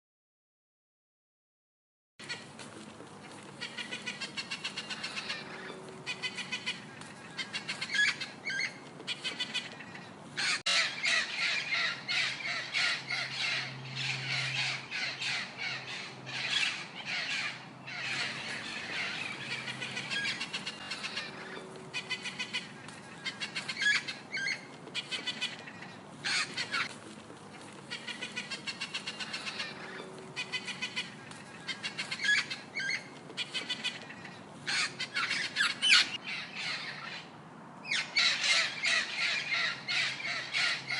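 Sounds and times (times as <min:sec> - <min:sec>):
parrot squawking: 0:03.6 - 0:26.9, 0:27.8 - 0:37.2, 0:37.8 - 0:40.9.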